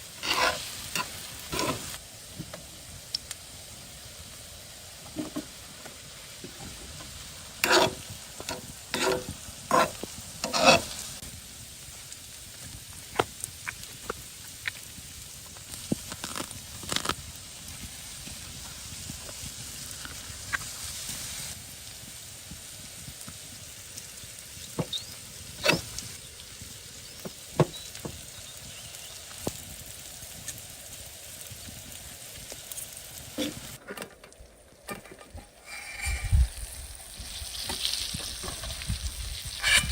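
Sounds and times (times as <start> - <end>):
food sizzling in a pan: 0.0 - 33.8, 35.6 - 39.9.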